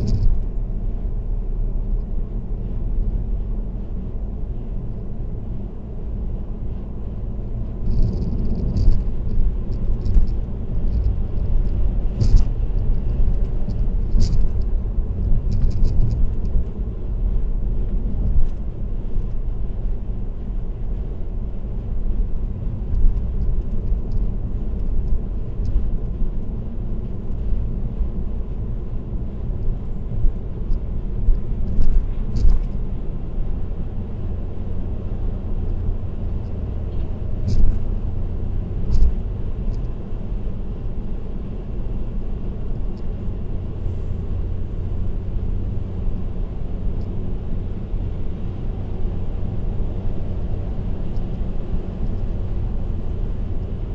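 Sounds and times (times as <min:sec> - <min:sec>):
road and tyre noise: 0:00.0 - 0:53.9.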